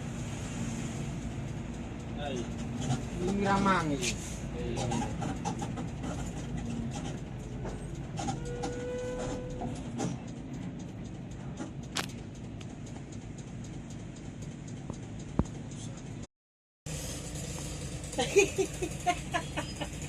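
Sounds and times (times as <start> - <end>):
vehicle engine rumbling: 0.0 - 16.3, 16.9 - 20.0.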